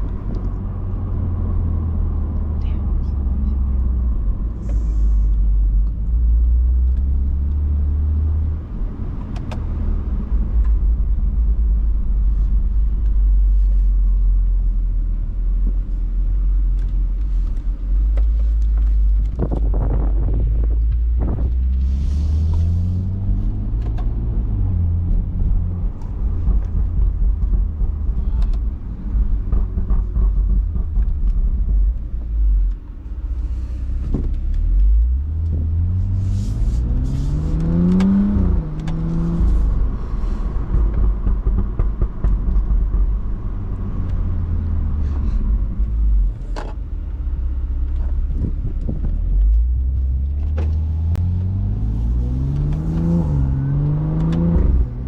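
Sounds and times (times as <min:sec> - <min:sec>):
car exhaust rumble: 0:00.0 - 0:55.0.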